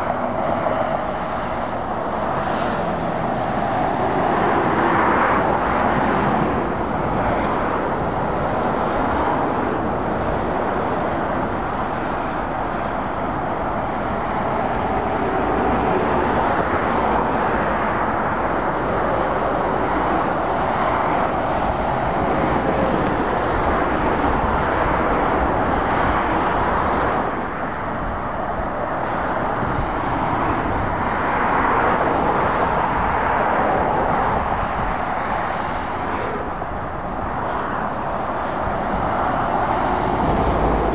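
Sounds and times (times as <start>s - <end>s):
motorway traffic rushing past: 0.0s - 40.9s.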